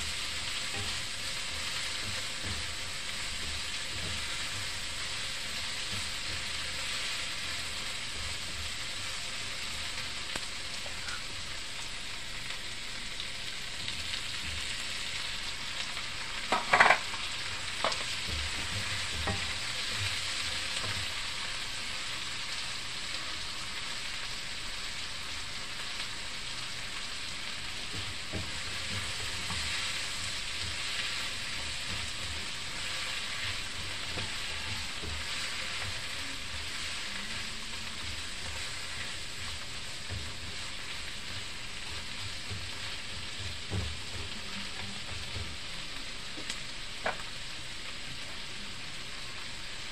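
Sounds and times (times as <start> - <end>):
spatula stirring in pan: 0.0 - 48.4
vegetables sizzling in frying pan: 0.0 - 49.9.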